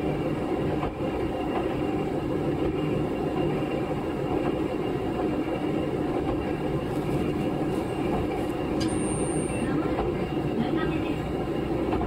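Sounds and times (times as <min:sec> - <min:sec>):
diesel railcar engine drone: 0:00.0 - 0:12.0.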